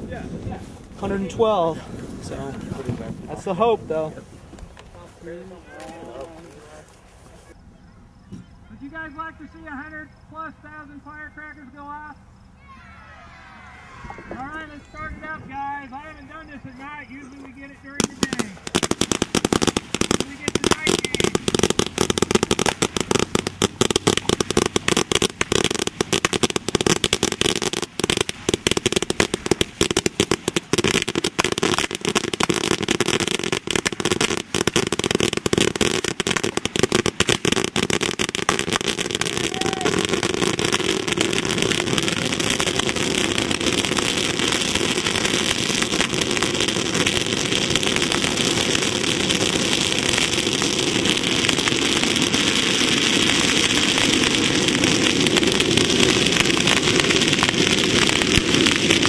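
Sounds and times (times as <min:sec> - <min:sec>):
firecrackers going off: 0:00.0 - 0:59.0.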